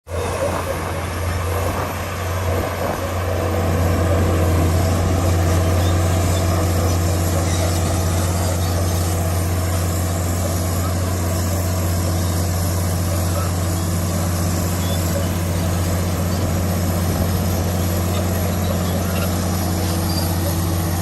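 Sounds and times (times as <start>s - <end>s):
bulldozer diesel engine humming: 0.1s - 21.0s.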